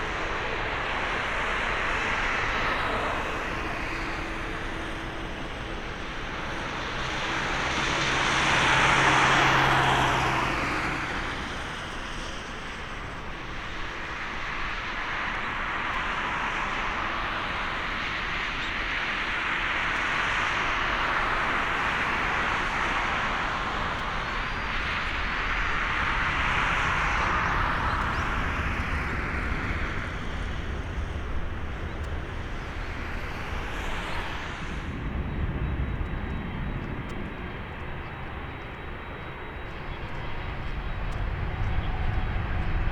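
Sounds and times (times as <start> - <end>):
high engine whine: 0.0 - 42.9
jet engines roaring: 0.0 - 42.9.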